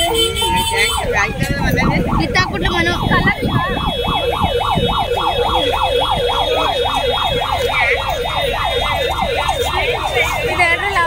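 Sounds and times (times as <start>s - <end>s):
electronic yelp siren: 0.0s - 11.0s
street crowd noise: 0.0s - 11.0s.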